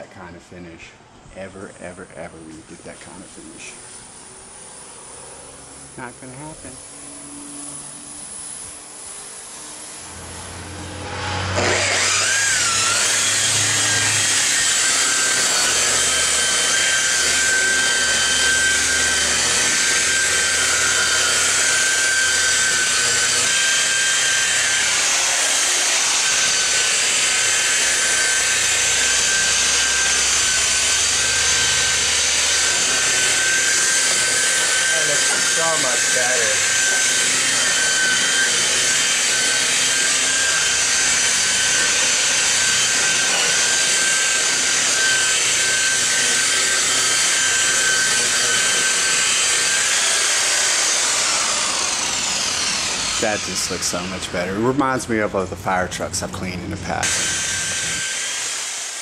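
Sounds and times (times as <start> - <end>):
rotary polisher whining: 1.4 - 59.0.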